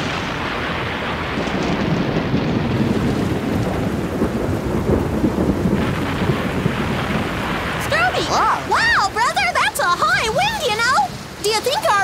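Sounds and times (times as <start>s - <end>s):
rolling thunder: 0.0s - 11.4s
steady rain: 0.0s - 12.0s.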